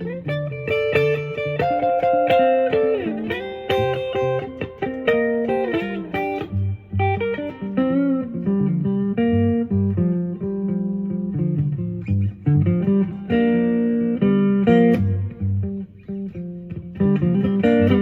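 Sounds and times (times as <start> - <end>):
electric guitar playing slow blues: 0.0 - 18.0.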